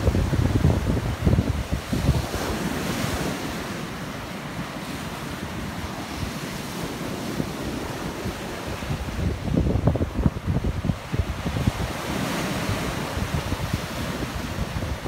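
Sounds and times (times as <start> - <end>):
wind buffeting microphone: 0.0 - 3.8, 4.7 - 15.0
ocean surf breaking on rocks: 0.0 - 15.0.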